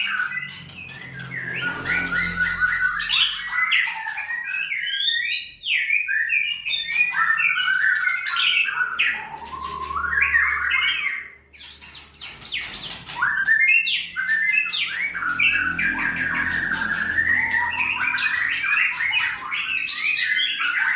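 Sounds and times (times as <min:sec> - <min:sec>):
bird singing whistles and chatter: 0:00.0 - 0:20.9.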